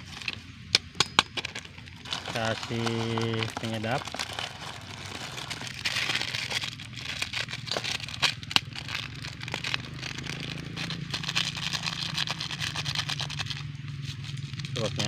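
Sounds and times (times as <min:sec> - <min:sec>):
steady low hum: 0:00.0 - 0:15.0
plastic sachet crinkling: 0:01.4 - 0:15.0.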